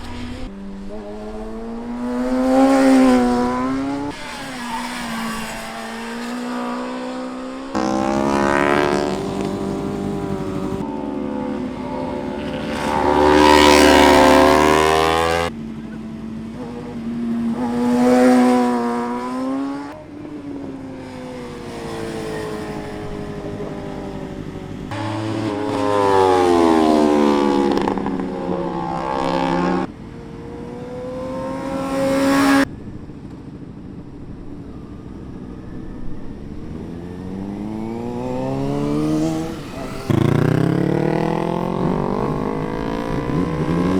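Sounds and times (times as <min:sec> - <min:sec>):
motorcycle engine accelerating: 0:00.0 - 0:43.9
road noise: 0:00.0 - 0:43.9.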